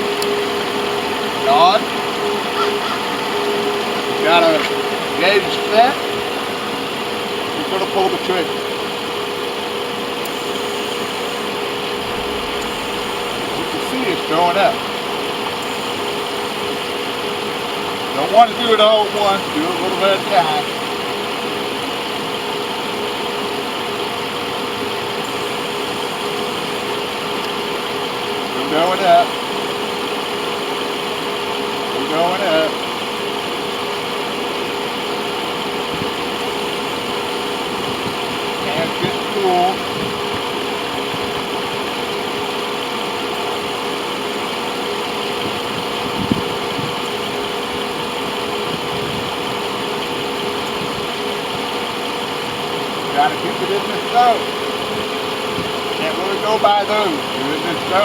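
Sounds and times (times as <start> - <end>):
air conditioning running: 0.0 - 58.0
car engine idling: 0.0 - 58.0.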